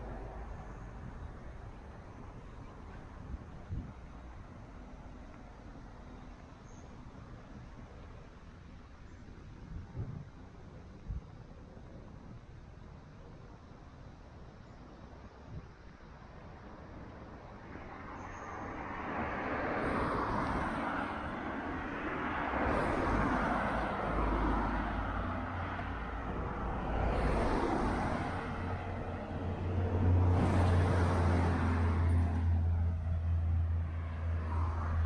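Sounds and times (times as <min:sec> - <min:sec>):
cars passing by: 0:00.0 - 0:10.7, 0:15.8 - 0:35.0
low engine hum: 0:00.0 - 0:35.0.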